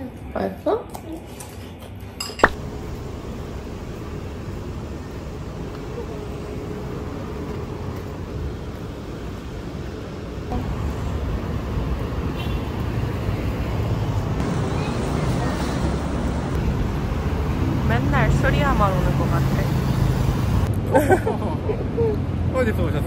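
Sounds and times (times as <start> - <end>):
road traffic rumble: 2.3 - 23.0.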